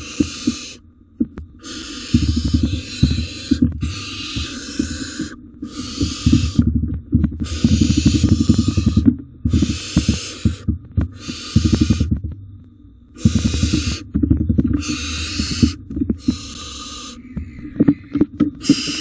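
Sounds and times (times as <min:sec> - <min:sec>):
owl chicks hissing calls: 0:00.0 - 0:00.8, 0:01.6 - 0:06.7, 0:07.4 - 0:12.1, 0:13.2 - 0:14.1, 0:14.8 - 0:19.0.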